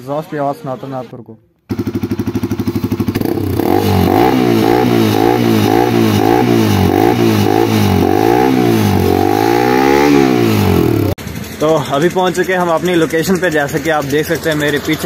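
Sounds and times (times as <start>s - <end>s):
motorbike revving: 1.7s - 15.0s.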